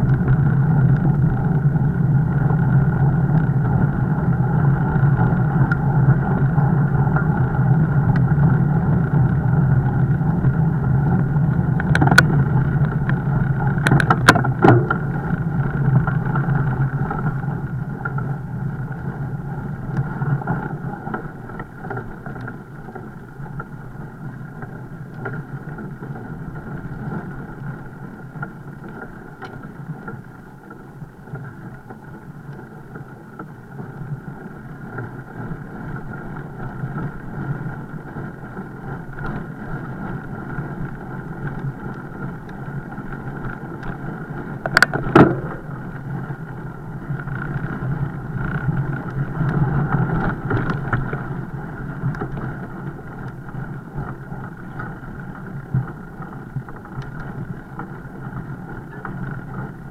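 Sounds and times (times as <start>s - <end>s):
bike riding rumble: 0.0s - 59.9s.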